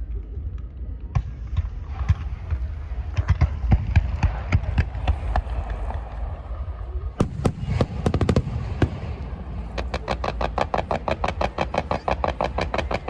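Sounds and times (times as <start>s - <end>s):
low rumble: 0.0s - 13.0s
fireworks crackling: 2.0s - 13.0s.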